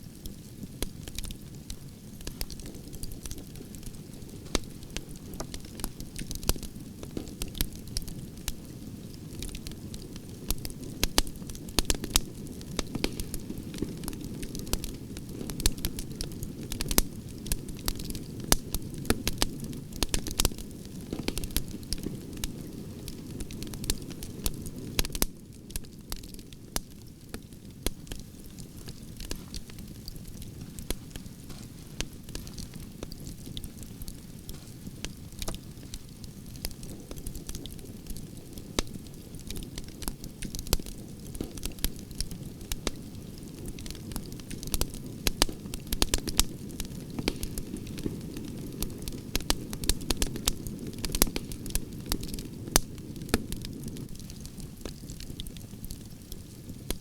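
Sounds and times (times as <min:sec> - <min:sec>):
low rumble of flames: 0:00.0 - 0:57.0
wood fire crackling: 0:00.0 - 0:57.0
sharp pops from fire: 0:00.1 - 0:57.0.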